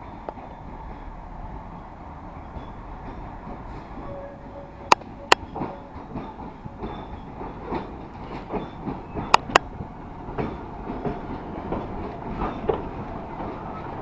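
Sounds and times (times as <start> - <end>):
train wheels rattling over rails: 0.0 - 14.0.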